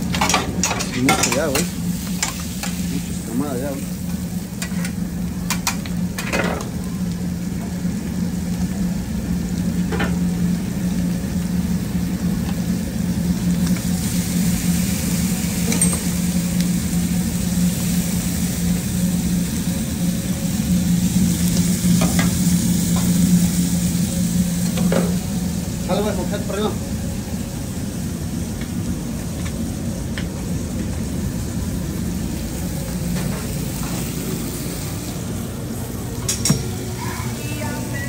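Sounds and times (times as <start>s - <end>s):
food sizzling on griddle: 0.0s - 38.0s
steady low hum: 0.0s - 38.0s.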